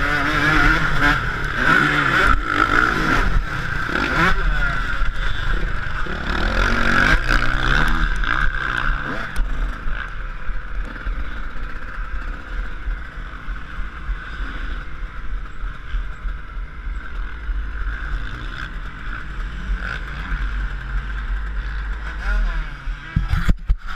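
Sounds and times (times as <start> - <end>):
motocross engine: 0.0 - 23.9.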